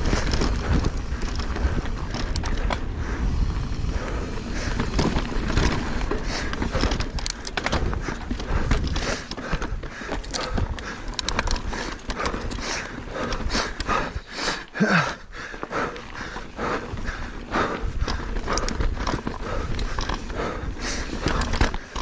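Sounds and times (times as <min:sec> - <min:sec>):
steady low rumble: 0:00.0 - 0:21.9
bike knocking and rattling on rocks: 0:00.0 - 0:22.0
tyres crunching over dirt and stones: 0:00.0 - 0:22.0.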